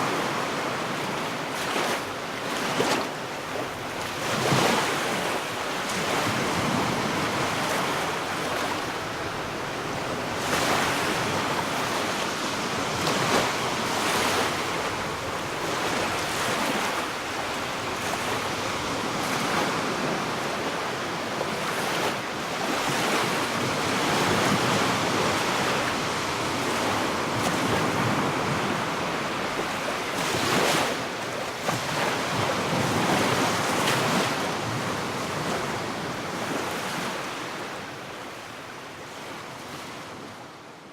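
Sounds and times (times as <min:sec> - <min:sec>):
sea waves breaking on beach: 0:00.0 - 0:40.6
wind: 0:00.0 - 0:40.9.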